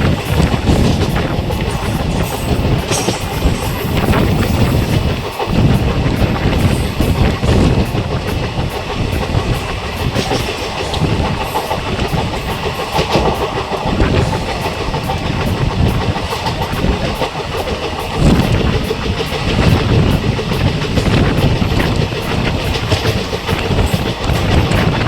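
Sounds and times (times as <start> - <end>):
rail joints clickety-clack: 0.0 - 25.0
train wheels rumbling on track: 0.0 - 25.0.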